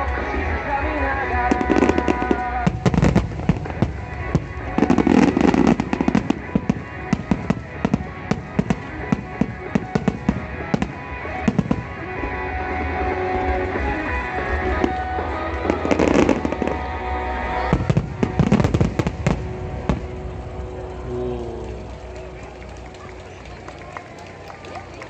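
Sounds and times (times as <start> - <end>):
fireworks bangs and crackles: 0.0 - 24.8
music playing: 0.0 - 25.0.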